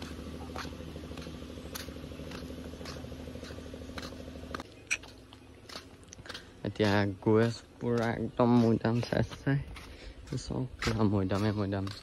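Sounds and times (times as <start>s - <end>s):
footsteps on paved path: 0.0s - 12.0s
low motor hum: 0.0s - 12.0s.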